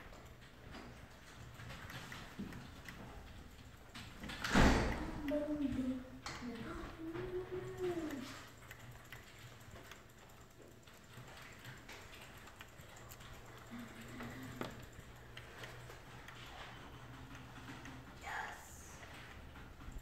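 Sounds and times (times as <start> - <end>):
computer mouse clicks: 0.2 - 18.2.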